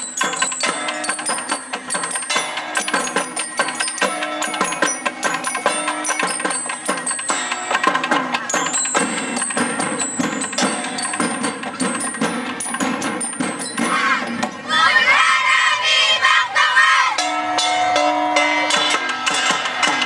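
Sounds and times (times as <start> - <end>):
rapid clicking percussion: 0.0 - 14.6, 17.2 - 20.0.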